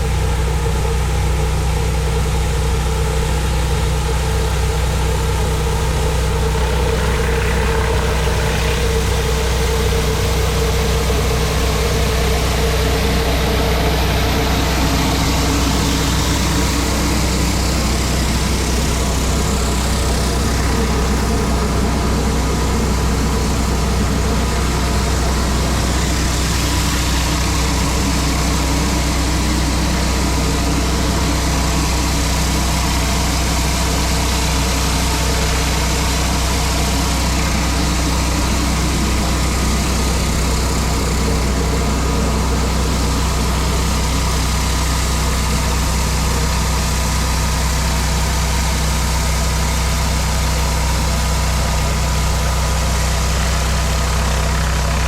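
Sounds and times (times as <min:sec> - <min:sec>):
pressure washer engine running: 0:00.0 - 0:55.0
water jet hissing on concrete: 0:05.1 - 0:55.0.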